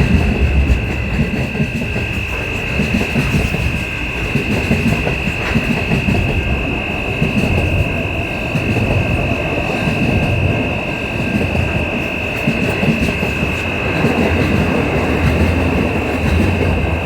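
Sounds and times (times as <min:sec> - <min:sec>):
train rumbling with whine: 0:00.0 - 0:17.0.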